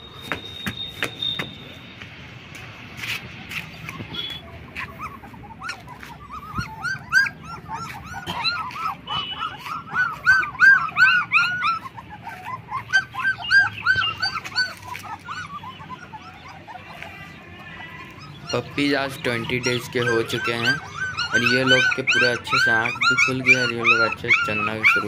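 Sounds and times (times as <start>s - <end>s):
puppies whimpering and squealing: 3.2s - 25.0s.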